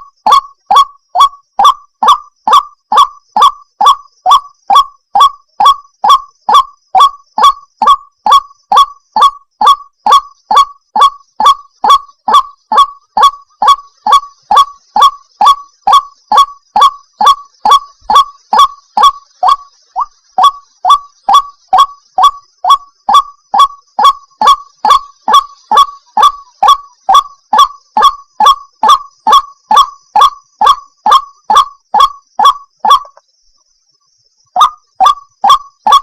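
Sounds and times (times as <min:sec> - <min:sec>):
waterhen calling: 0:00.0 - 0:33.2, 0:34.6 - 0:36.0.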